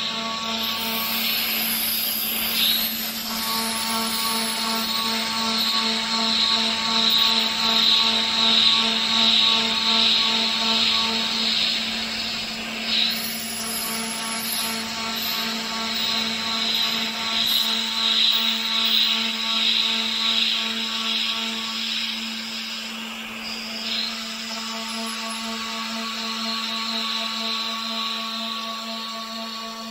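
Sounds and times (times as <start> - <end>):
thread mill cutting aluminium: 0.0 - 28.6
router spindle whine: 0.0 - 29.9.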